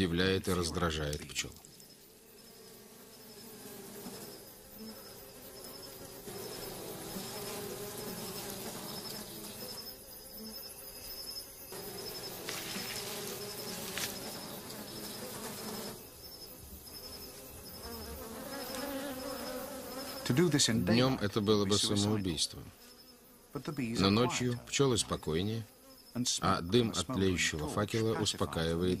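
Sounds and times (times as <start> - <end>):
crickets chirping: 0.0 - 29.0
bees buzzing: 1.6 - 29.0.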